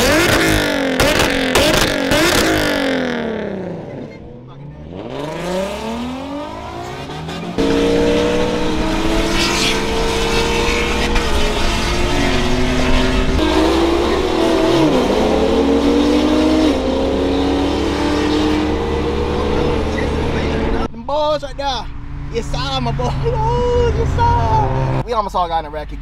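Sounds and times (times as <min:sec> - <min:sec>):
car engine revving at full throttle: 0:00.0 - 0:20.9, 0:22.1 - 0:25.1.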